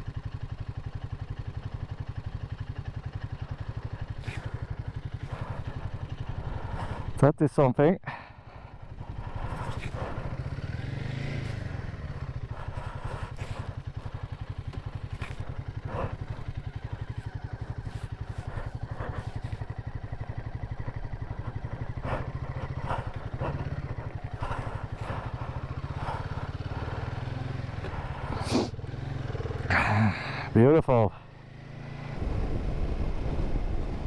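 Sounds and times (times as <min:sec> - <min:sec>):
motorcycle engine pulsing: 0:00.0 - 0:07.3, 0:08.0 - 0:34.0.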